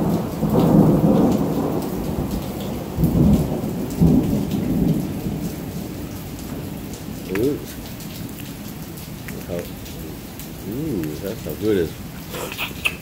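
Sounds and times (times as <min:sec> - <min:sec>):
thunder rumbling: 0:00.0 - 0:12.4
steady rain falling: 0:00.0 - 0:13.0.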